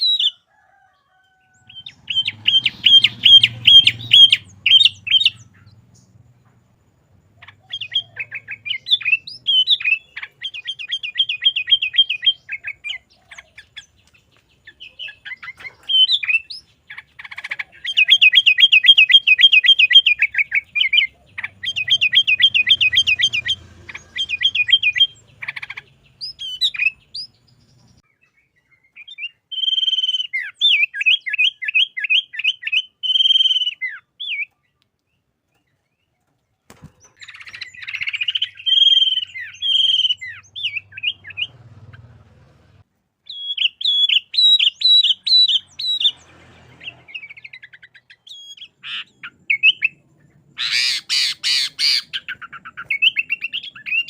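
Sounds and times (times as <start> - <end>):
bird singing rapid chirps: 0.0 - 0.5, 1.4 - 54.0.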